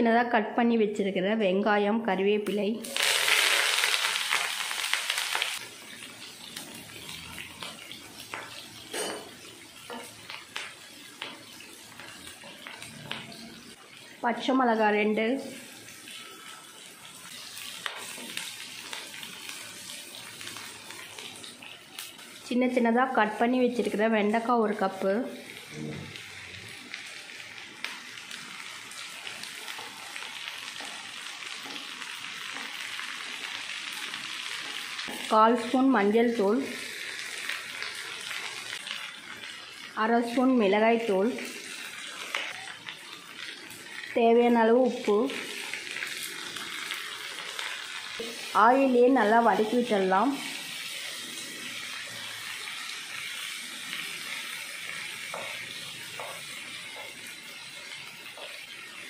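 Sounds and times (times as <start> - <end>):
onions sizzling in hot oil: 2.3 - 59.0.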